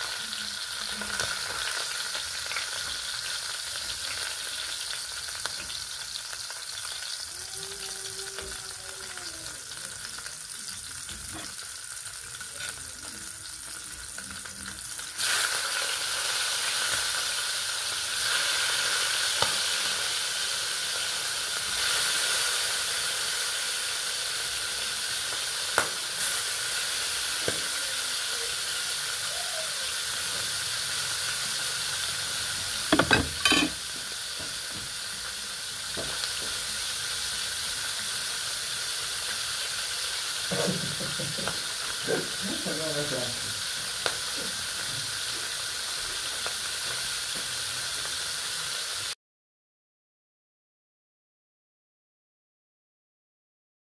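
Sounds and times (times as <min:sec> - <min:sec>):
fish sizzling in hot oil: 0:00.0 - 0:49.2.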